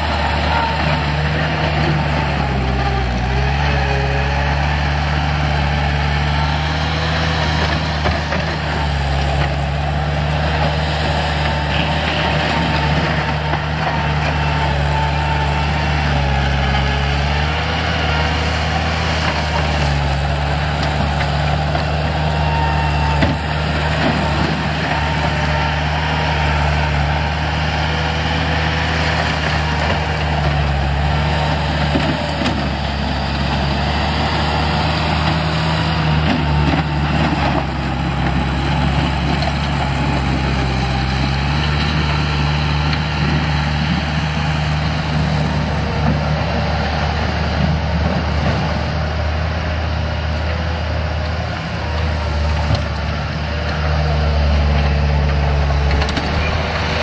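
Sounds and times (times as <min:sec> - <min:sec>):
skid steer diesel engine running: 0:00.0 - 0:57.0.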